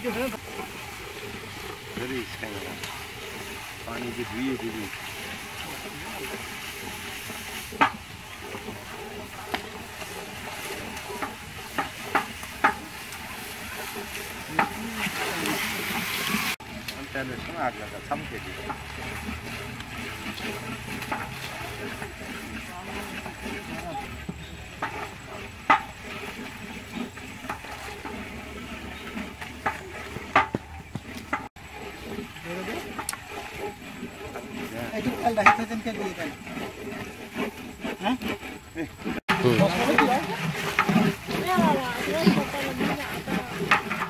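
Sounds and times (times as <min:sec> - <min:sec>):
curry sizzling: 0:00.0 - 0:37.2
wooden paddle stirring pot: 0:00.0 - 0:44.0.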